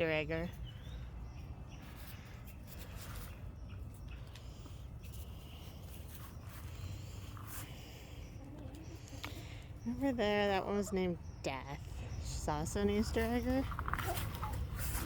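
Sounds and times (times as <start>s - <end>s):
chickens chirping softly: 0.0s - 15.0s.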